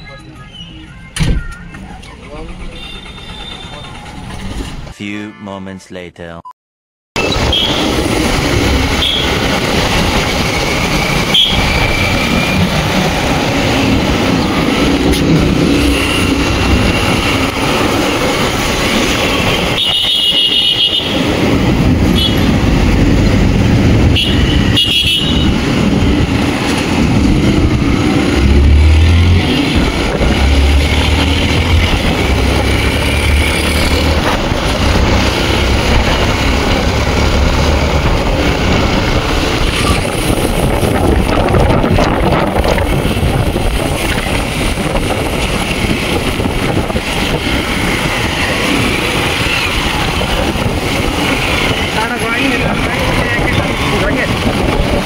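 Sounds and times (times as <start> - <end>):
vehicle road noise: 0.0 - 5.2, 7.2 - 55.0.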